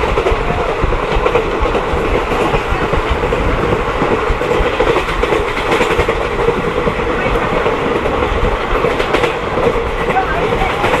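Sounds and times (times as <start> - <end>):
train rumbling on track: 0.0 - 11.0
wheel clatter over rails: 0.0 - 11.0.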